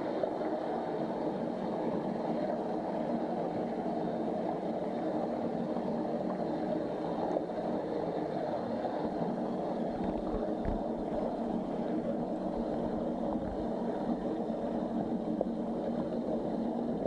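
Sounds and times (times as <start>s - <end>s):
faint hum: 0.0s - 17.0s
muffled underwater noise: 0.1s - 17.0s.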